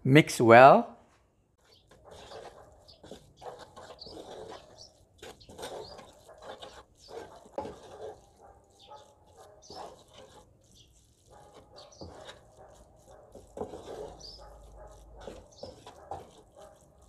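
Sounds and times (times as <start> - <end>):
wooden spatula scraping a frying pan: 1.6 - 17.0.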